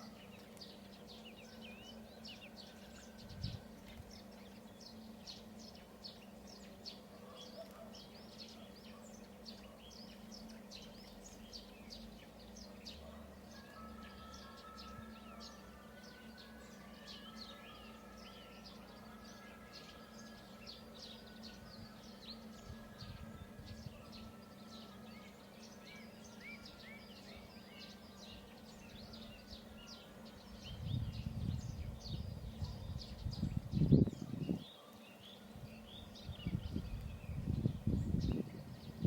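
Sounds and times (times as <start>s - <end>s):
faint steady hum: 0.0s - 39.0s
small birds chirping: 0.0s - 39.0s.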